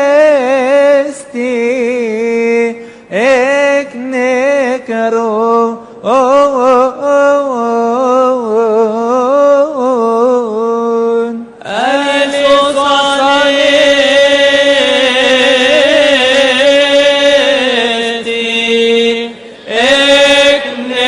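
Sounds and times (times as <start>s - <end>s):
man chanting: 0.0s - 21.0s.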